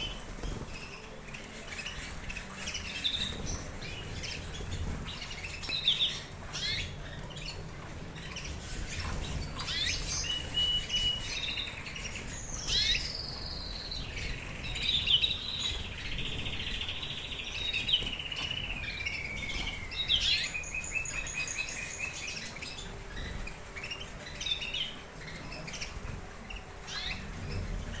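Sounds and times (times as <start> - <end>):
canaries singing: 0.0 - 28.0.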